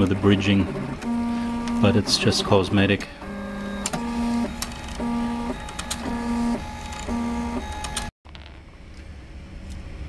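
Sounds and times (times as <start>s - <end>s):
stepper motors whining: 0.0s - 8.1s.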